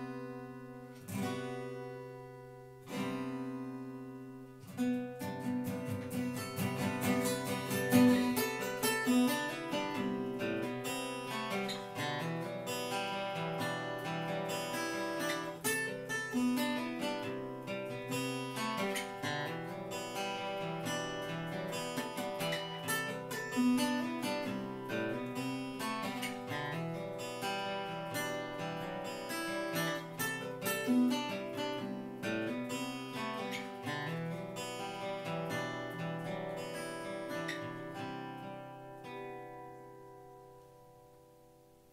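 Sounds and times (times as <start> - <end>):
acoustic guitars strumming: 0.0 - 41.8.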